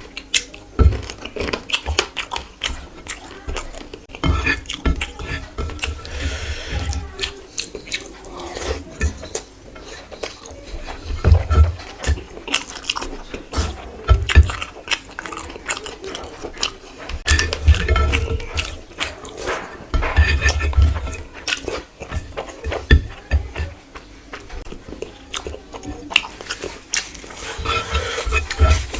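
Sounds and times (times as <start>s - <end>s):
chewing and biting: 0.0s - 28.9s
dishes clicking and knocking: 0.0s - 28.9s.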